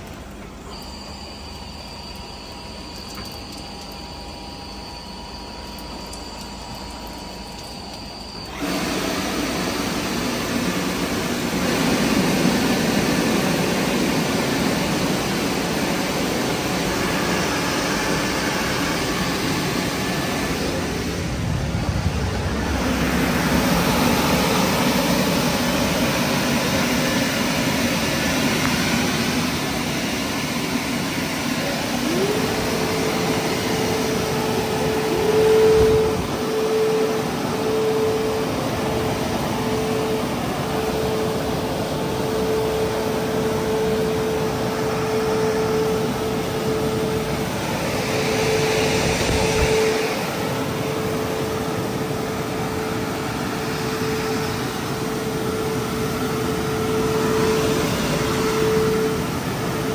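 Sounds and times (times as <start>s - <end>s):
car wash machinery rushing: 0.0s - 59.9s
motor whine: 0.0s - 59.9s.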